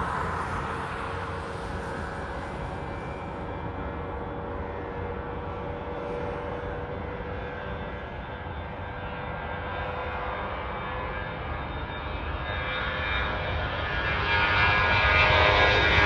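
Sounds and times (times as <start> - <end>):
jet engines at takeoff power: 0.0 - 16.0.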